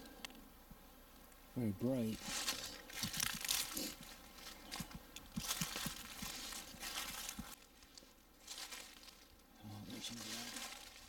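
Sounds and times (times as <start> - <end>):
footsteps crunching dry leaves: 2.1 - 11.0.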